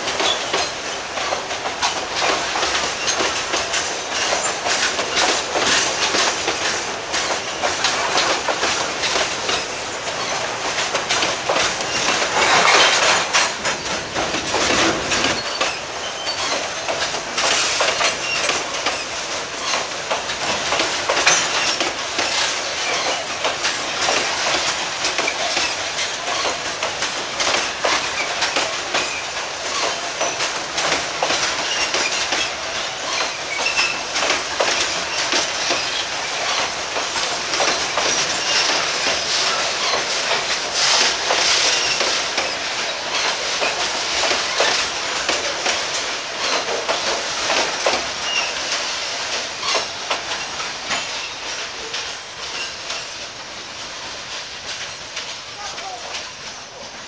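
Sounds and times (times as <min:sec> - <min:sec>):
steel wheels rattling on rails: 0:00.0 - 0:57.0
wheels clicking over rail joints: 0:00.0 - 0:57.0.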